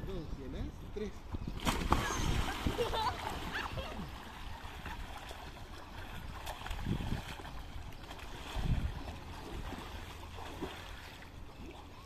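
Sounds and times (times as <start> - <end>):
wind rumble on microphone: 0.0 - 10.7
pool water splashing: 1.5 - 12.0.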